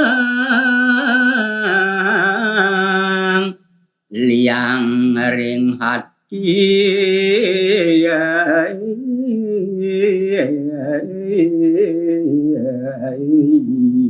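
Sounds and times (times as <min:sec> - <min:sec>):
man singing with vibrato: 0:00.0 - 0:14.0.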